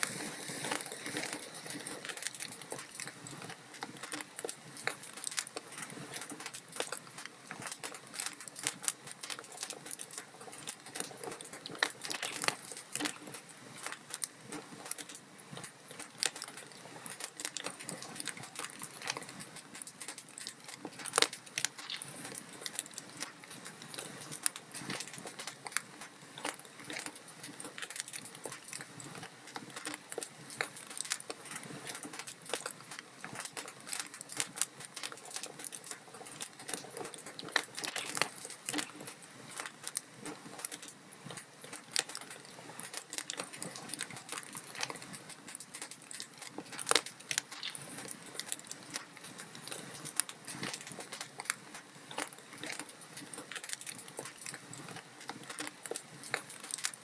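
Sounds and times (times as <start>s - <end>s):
log fire crackling: 0.0s - 57.0s.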